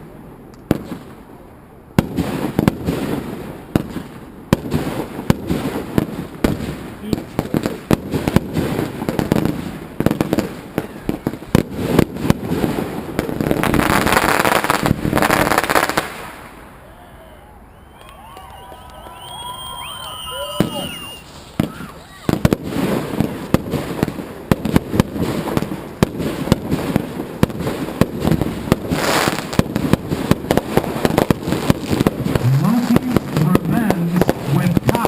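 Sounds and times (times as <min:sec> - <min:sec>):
fireworks bangs and pops: 0:00.0 - 0:01.3, 0:02.0 - 0:16.6, 0:18.5 - 0:35.0
fireworks crackling burst: 0:02.0 - 0:16.7, 0:18.2 - 0:35.0.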